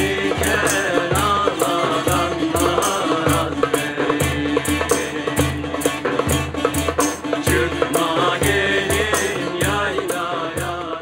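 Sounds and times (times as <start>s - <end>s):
man singing: 0.0s - 5.8s, 7.4s - 11.0s
deep frame drum strokes: 0.0s - 11.0s
tabla: 0.0s - 11.0s.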